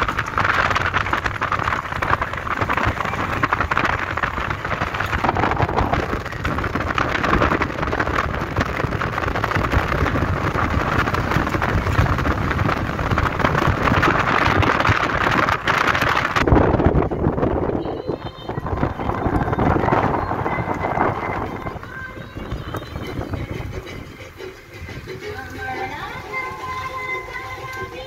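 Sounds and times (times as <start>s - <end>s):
wind rushing: 0.0s - 25.3s
tyre road noise: 0.0s - 28.0s.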